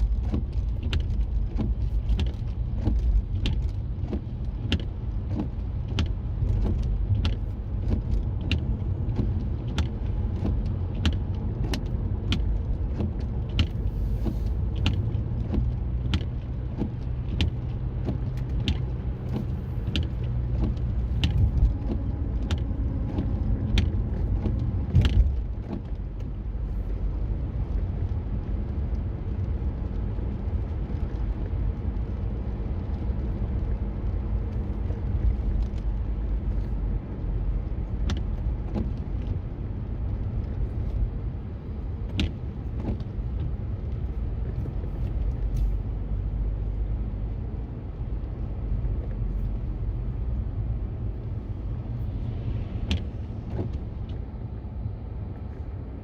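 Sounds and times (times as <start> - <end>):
car road rumble from inside: 0.0 - 56.0.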